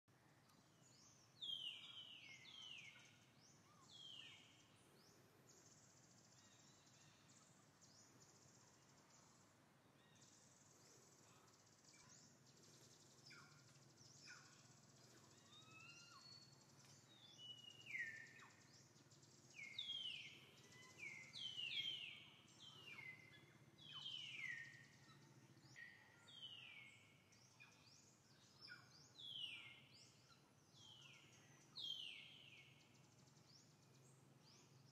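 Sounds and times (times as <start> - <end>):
faint low hum: 0.2 - 34.9.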